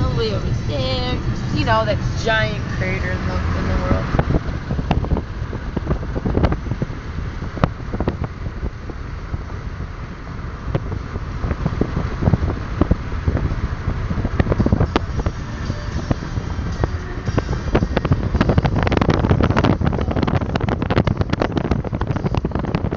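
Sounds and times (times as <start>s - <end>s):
road noise from car: 0.0s - 22.9s
wind buffeting microphone: 0.0s - 22.9s.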